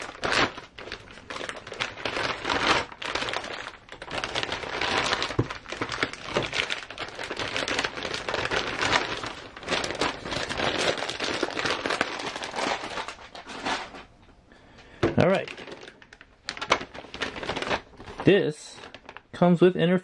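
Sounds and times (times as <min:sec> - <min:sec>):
plastic bags crinkling: 0:00.0 - 0:14.2, 0:15.0 - 0:19.4.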